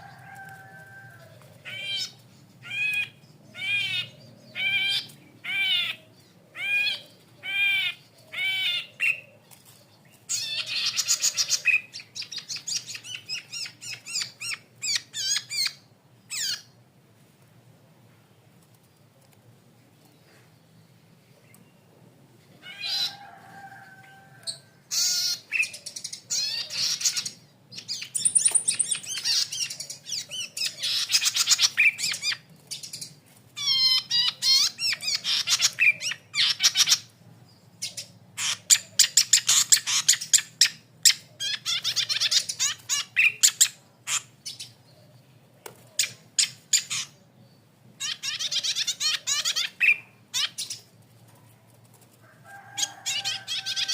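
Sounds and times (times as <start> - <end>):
small bird chattering and trilling: 1.6 - 16.8, 24.5 - 45.2, 45.8 - 53.9.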